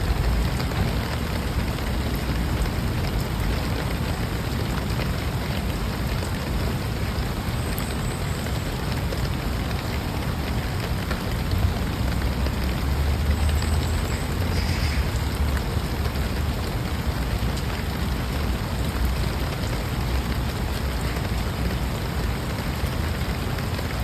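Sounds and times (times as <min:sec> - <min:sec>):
heavy rain pouring: 0:00.0 - 0:24.0
rain pattering on hard surfaces: 0:00.0 - 0:24.0.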